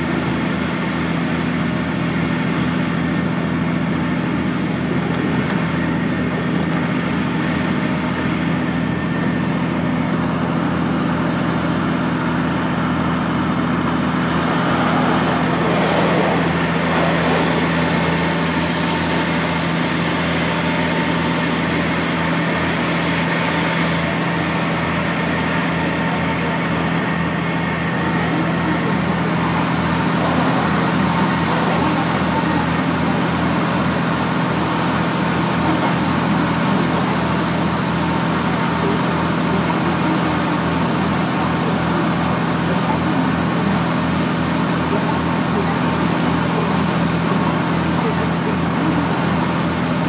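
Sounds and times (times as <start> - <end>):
low engine hum: 0.0 - 50.0
wheels rumbling on rail: 0.0 - 50.0.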